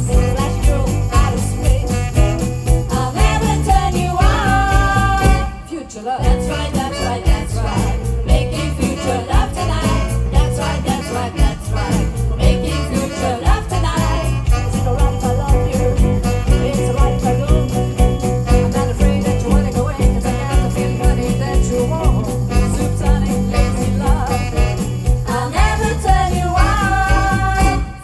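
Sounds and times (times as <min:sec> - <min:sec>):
live band playing with singing: 0:00.0 - 0:28.0.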